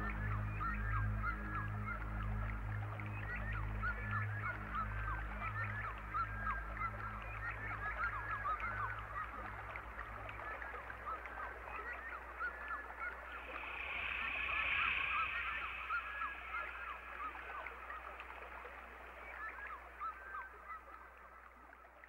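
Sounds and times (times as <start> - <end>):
chorus of animal calls: 3.1 - 21.0.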